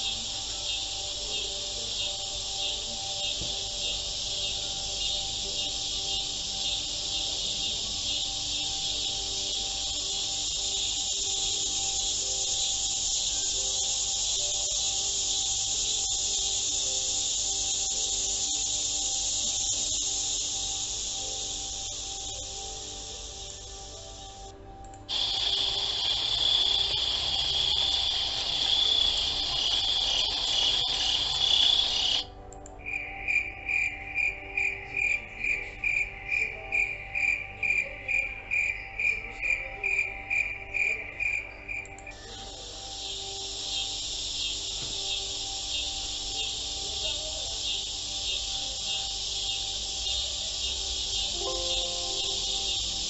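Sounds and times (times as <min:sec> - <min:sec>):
cricket chirping: 0:00.0 - 0:53.0
faint soft music: 0:00.0 - 0:53.0
high-pitched insect trill: 0:00.0 - 0:53.0.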